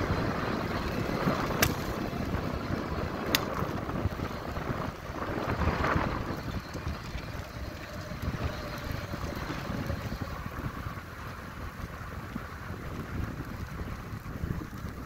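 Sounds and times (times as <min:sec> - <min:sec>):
bicycle tyres rolling on asphalt: 0:00.0 - 0:15.0
wind buffeting microphone: 0:00.0 - 0:15.0.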